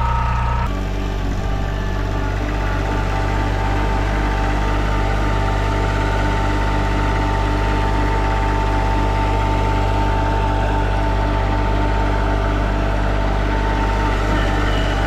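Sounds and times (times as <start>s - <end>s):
constant whine: 0.0s - 15.0s
skid steer engine running: 0.0s - 15.0s.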